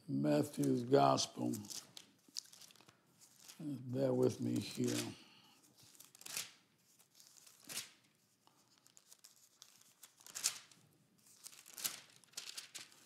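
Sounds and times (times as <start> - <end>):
thin pages turning: 0.5 - 13.0.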